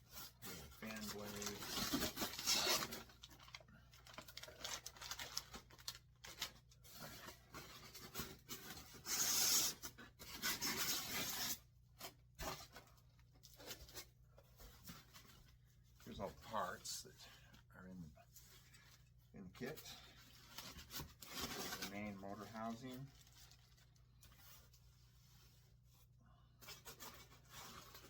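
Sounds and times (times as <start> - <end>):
packaging rustling and scraping: 0.0 - 17.0, 18.4 - 25.8, 26.6 - 28.0.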